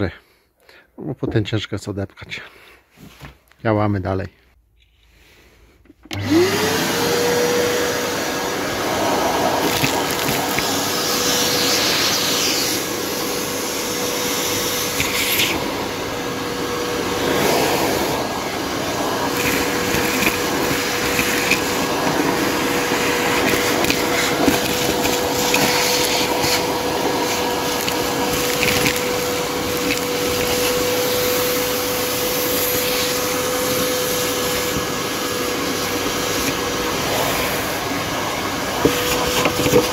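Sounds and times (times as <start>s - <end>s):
debris rattling in vacuum nozzle: 6.1s - 39.9s
vacuum cleaner motor whine: 6.1s - 39.9s.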